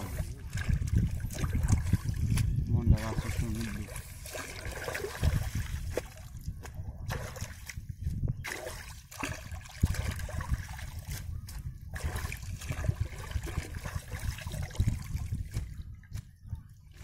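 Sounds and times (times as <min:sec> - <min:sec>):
water splashes: 0:00.0 - 0:16.2
muddy water sloshing: 0:00.0 - 0:17.0.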